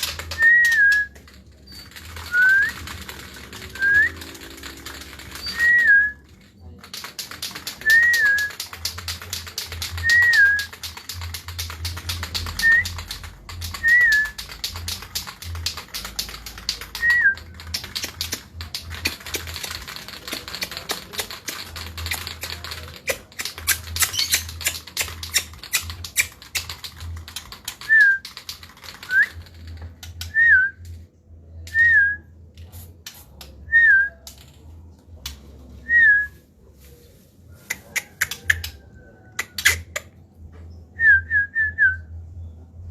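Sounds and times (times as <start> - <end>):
dry clicking chatter: 0.0 - 31.0, 32.5 - 35.8, 37.6 - 40.6.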